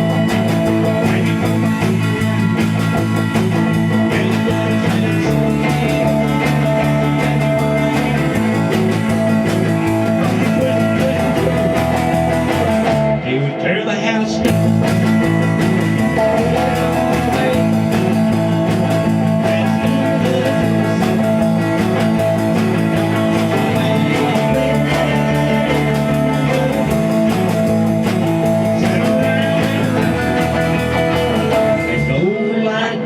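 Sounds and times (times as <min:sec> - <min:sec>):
electric guitar: 0:00.0 - 0:33.0
rock band playing: 0:00.0 - 0:33.0.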